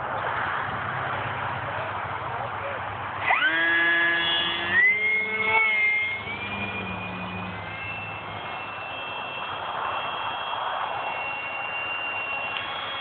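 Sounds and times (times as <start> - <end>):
small electric motor and propeller whine: 0.0 - 13.0.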